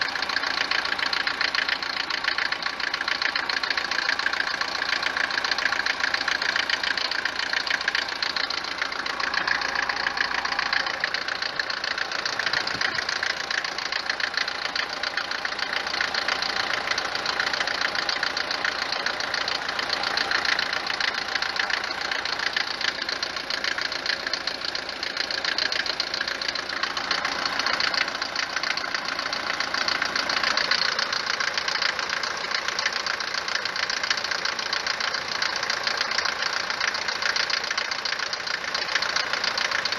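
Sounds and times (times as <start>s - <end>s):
diesel engine idling with knocking clatter: 0.0s - 39.9s.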